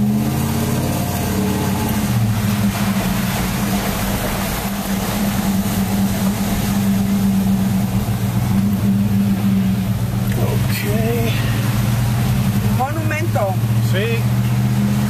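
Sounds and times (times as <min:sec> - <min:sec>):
car engine droning: 0:00.0 - 0:15.0
tyres hissing on wet pavement: 0:00.0 - 0:15.0.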